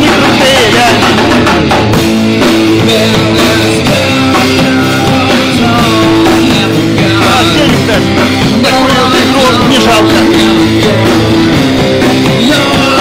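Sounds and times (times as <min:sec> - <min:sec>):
drum kit: 0:00.0 - 0:13.0
electric guitars: 0:00.0 - 0:13.0.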